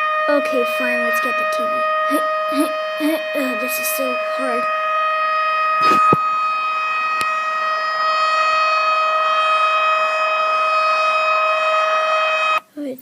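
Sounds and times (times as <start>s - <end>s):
warning siren steady tone: 0.0s - 12.8s.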